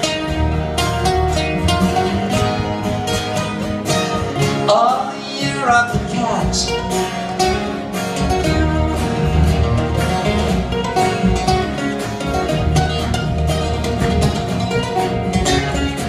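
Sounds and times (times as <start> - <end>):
acoustic guitar playing: 0.0 - 16.0
second guitar playing: 0.0 - 16.0.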